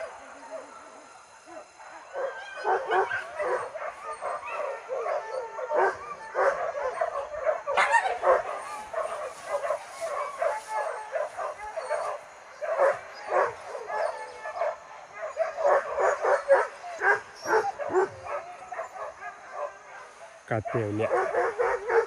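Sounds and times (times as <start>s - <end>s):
dogs yelping and baying: 0.0s - 22.0s.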